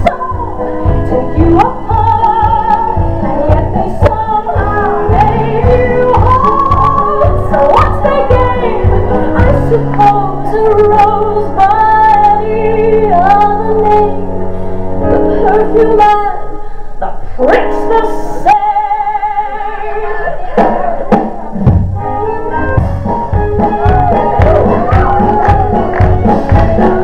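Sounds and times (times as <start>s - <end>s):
instrumental backing music: 0.0s - 27.0s.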